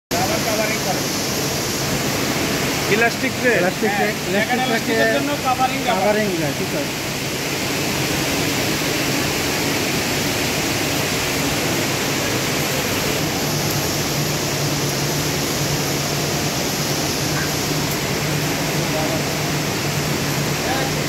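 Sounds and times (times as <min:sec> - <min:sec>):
low machine hum: 0:00.1 - 0:21.0.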